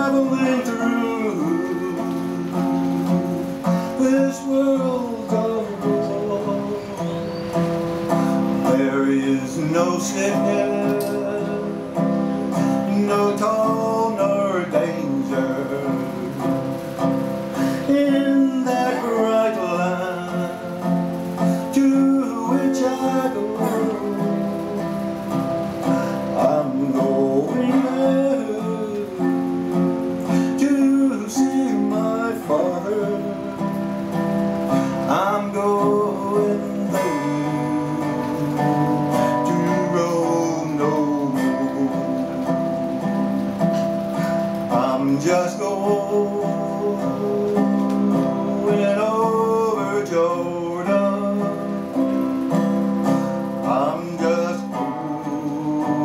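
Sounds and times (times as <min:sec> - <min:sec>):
acoustic guitar played lap-style: 0:00.0 - 0:56.0
man singing a slow folk song: 0:00.0 - 0:56.0.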